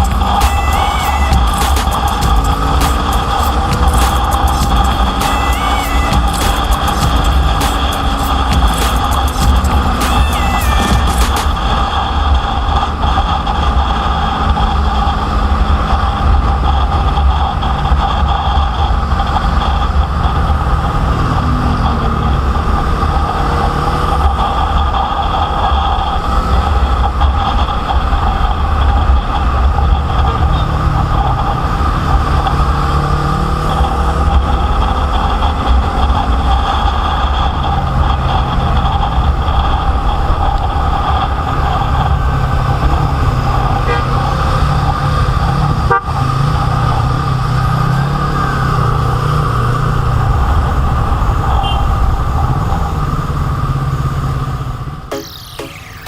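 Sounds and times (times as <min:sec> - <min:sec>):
vehicle engine drone: 0:00.0 - 0:56.0.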